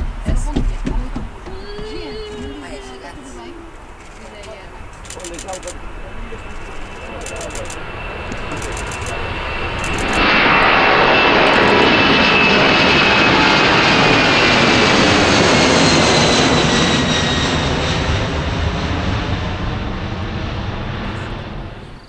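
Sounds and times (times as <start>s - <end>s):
airliner roar passing: 0.0s - 22.0s.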